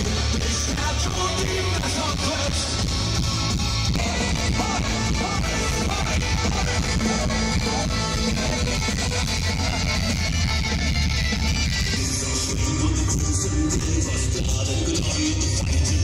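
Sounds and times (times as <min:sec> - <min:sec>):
drum kit: 0:00.0 - 0:16.0
electric guitars: 0:00.0 - 0:16.0
heavy bass: 0:00.0 - 0:16.0.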